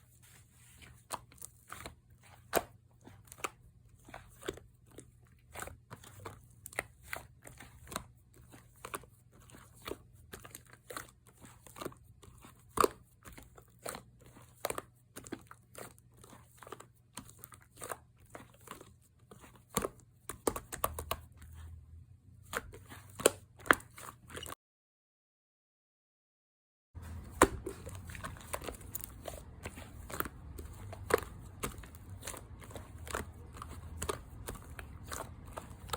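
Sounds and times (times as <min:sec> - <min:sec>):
slime squelching by hand: 0:00.0 - 0:24.6, 0:27.0 - 0:35.9.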